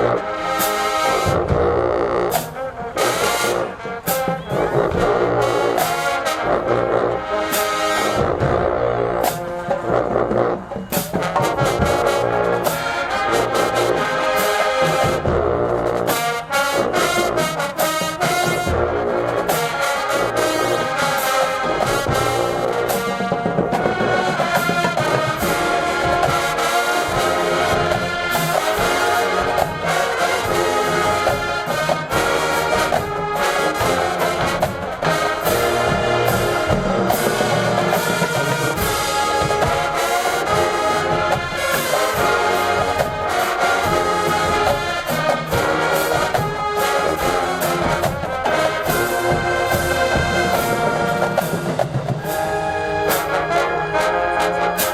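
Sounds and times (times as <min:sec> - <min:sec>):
marching band brass: 0:00.0 - 0:54.9.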